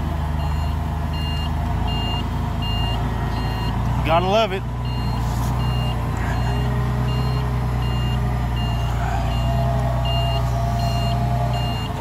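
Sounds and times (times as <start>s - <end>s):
forklift engine drone: 0.0s - 12.0s
forklift warning beeps: 0.3s - 12.0s.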